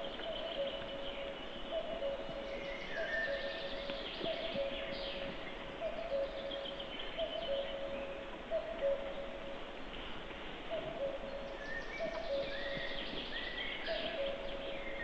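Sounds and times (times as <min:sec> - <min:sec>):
songbird phrases: 0:00.0 - 0:15.0.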